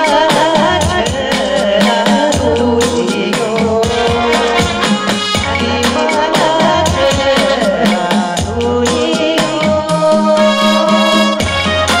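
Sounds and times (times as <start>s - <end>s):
quick steady drum beat: 0.0s - 12.0s.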